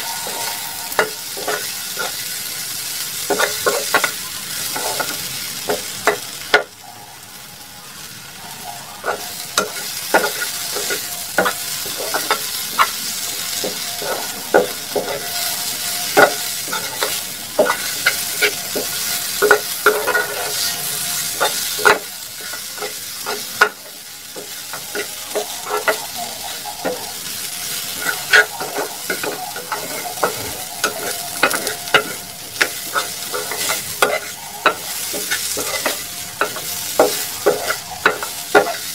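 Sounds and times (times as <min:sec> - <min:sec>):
metal spatula scraping pan: 0:00.0 - 0:02.3, 0:09.0 - 0:38.9
okra sizzling in oil: 0:00.0 - 0:38.9.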